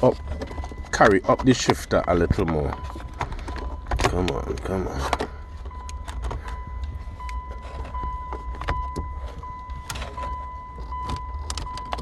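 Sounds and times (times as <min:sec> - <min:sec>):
clicks and knocks of car parts: 0:00.0 - 0:12.0
high-pitched tone: 0:00.0 - 0:12.0
low hum: 0:00.0 - 0:12.0.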